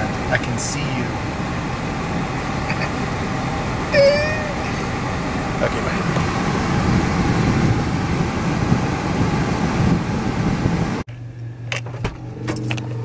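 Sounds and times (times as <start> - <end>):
air-conditioning fan blowing: 0.0 - 13.0
steady hum: 0.0 - 13.0.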